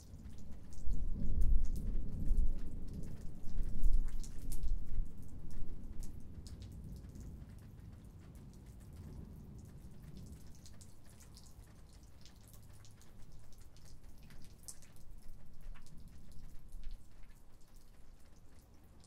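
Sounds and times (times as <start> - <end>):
raindrops tapping: 0.0 - 19.0.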